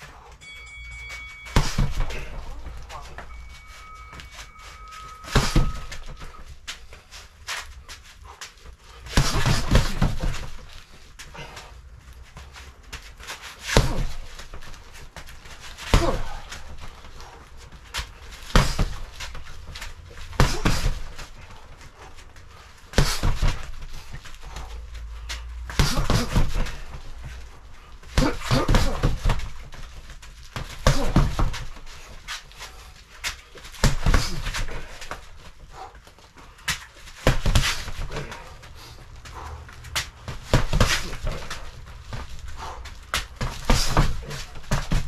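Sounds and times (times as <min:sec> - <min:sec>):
heavy breathing: 0:00.0 - 0:30.0, 0:30.6 - 0:45.0
boxing gloves punching bag: 0:00.0 - 0:45.0.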